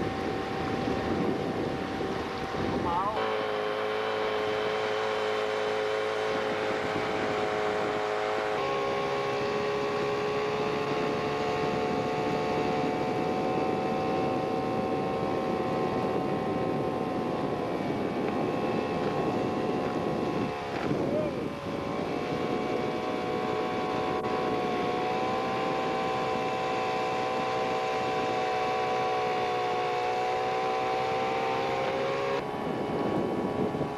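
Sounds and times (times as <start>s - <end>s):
outboard motor running: 0.0s - 33.9s.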